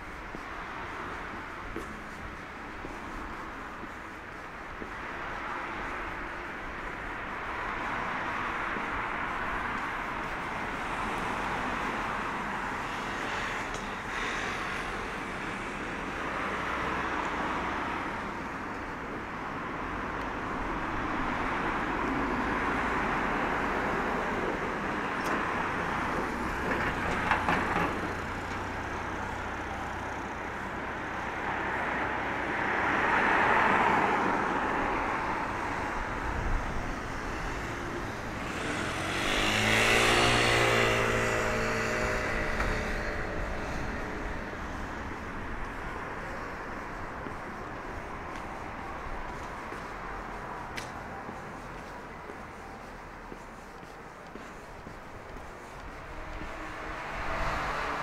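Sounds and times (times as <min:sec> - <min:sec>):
passing cars: 0:00.0 - 0:58.0.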